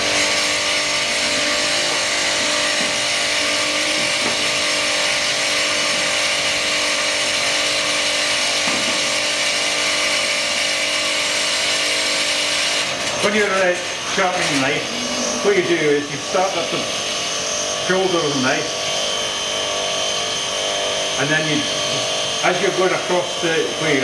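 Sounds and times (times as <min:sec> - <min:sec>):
bench grinder running: 0:00.0 - 0:24.0.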